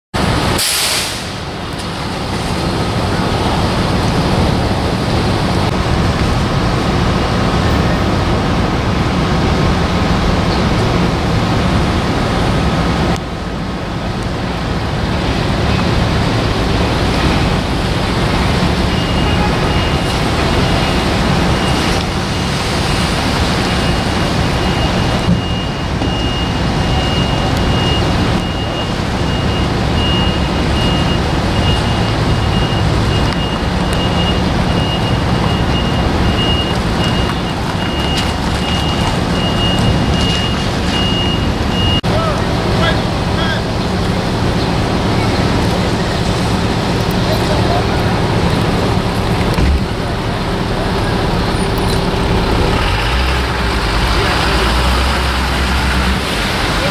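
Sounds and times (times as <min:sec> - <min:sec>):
traffic rumble: 0:00.1 - 0:56.9.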